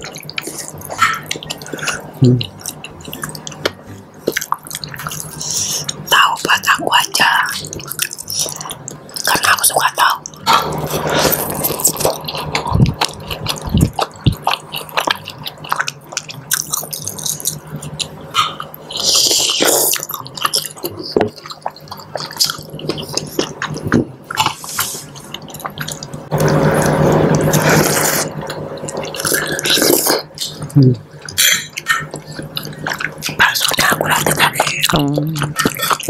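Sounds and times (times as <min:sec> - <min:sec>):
chewing and slurping noodles: 0:00.0 - 0:36.0.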